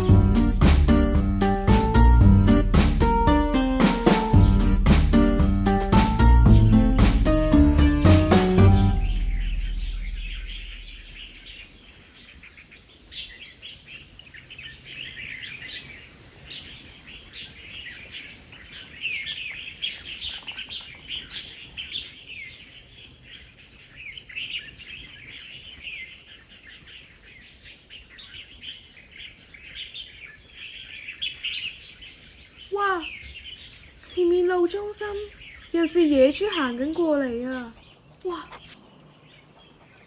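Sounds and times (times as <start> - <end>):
forest birds chirping: 0.0 - 40.0.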